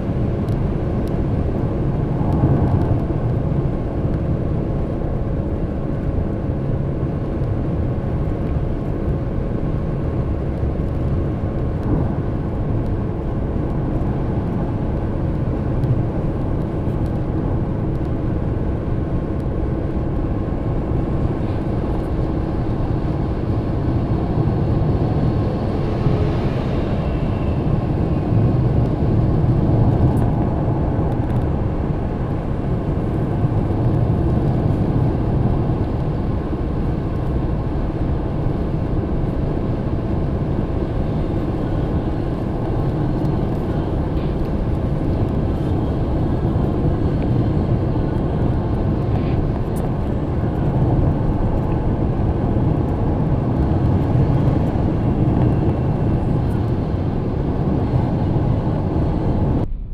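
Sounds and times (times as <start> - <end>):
tyre and engine rumble: 0.0 - 59.9.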